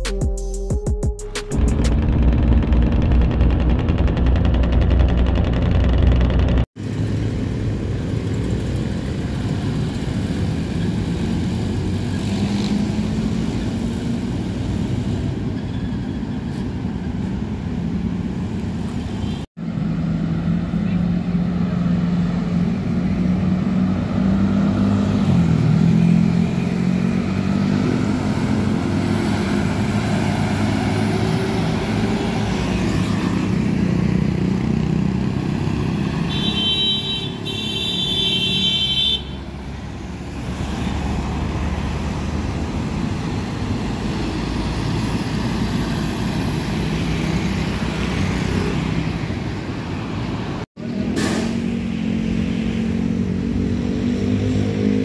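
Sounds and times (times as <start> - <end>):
trucks and motorcycles passing: 1.5 - 55.0.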